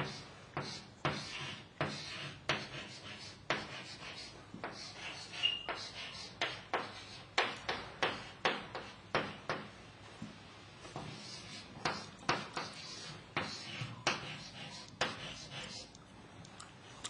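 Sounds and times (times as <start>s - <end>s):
chalk tapping and scraping: 0.0s - 16.0s.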